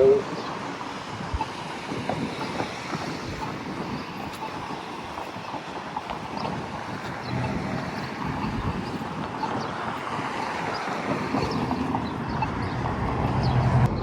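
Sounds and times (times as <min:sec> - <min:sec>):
traffic rumble: 0:00.0 - 0:14.0
wind noise on microphone: 0:00.0 - 0:14.0.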